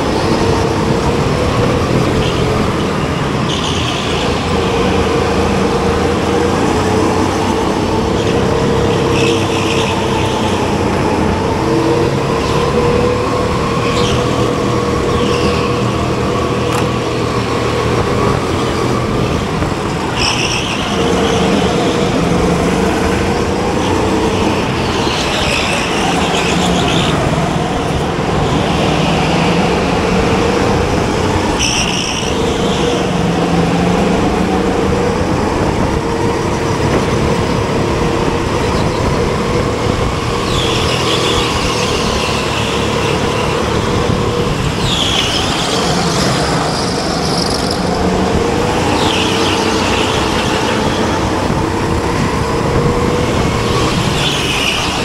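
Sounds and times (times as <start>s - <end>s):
go-kart motor: 0.0s - 55.0s
high-pitched squeals: 0.0s - 55.0s.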